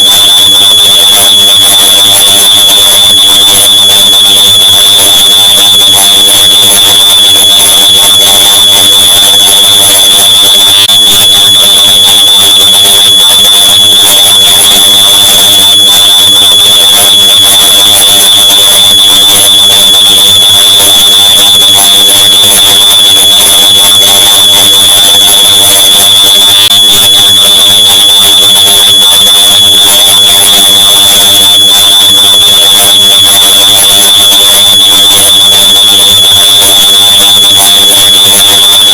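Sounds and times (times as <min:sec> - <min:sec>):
distorted smoke alarm tone: 0:00.0 - 0:38.9.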